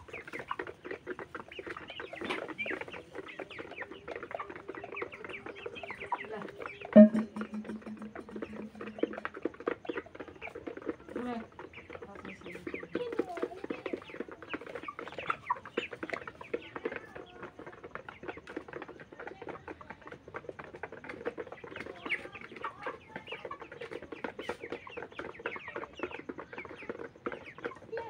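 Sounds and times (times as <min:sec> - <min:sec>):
chickens clucking and peeping: 0:00.0 - 0:28.0.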